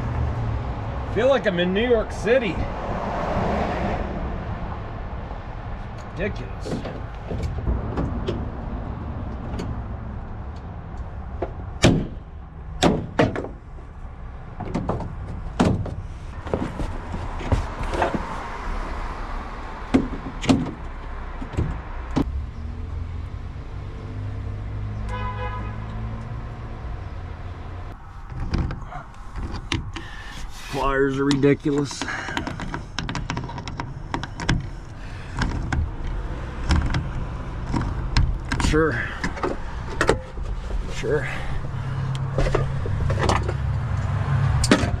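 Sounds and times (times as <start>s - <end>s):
low rumble of traffic: 0.0s - 45.0s.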